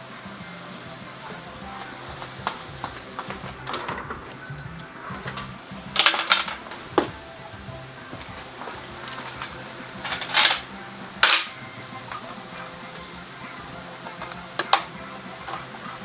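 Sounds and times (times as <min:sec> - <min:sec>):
metal tools clinking: 0:01.2 - 0:15.7.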